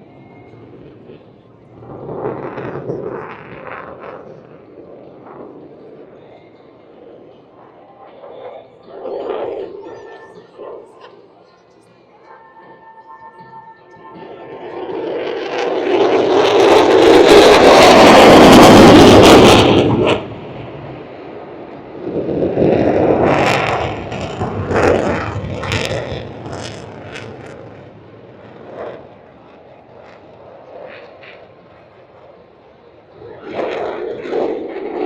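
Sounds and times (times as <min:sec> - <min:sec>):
aircraft engine noise: 0:00.0 - 0:35.0.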